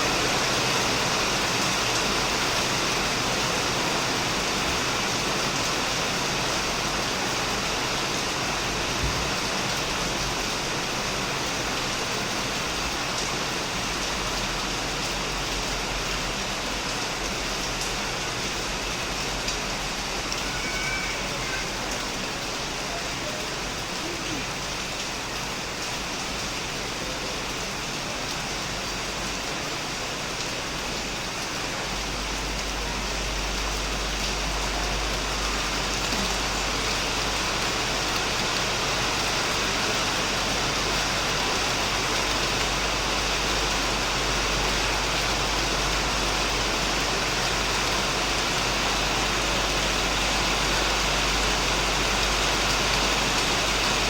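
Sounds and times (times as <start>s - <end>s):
heavy rain on shed and plants: 0.0s - 54.0s.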